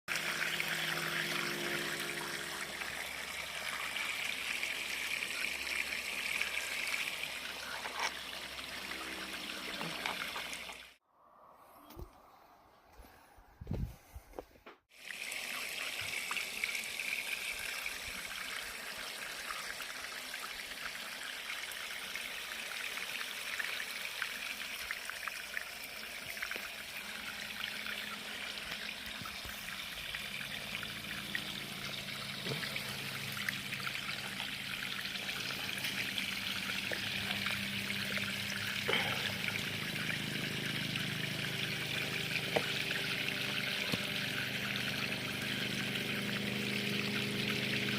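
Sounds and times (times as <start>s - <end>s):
water trickling over stones: 0.1s - 11.0s, 14.9s - 47.9s.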